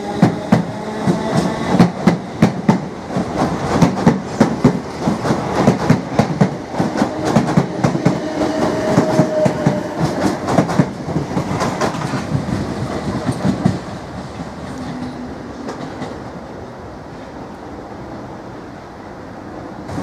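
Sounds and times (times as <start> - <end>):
train wheels clicking over joints: 0.0 - 16.4
train whine: 0.0 - 20.0.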